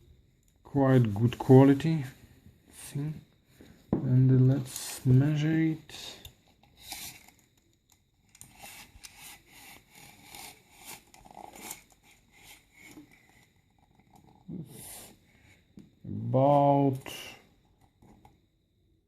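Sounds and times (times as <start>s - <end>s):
faint scraping and rustling: 0.7s - 16.3s.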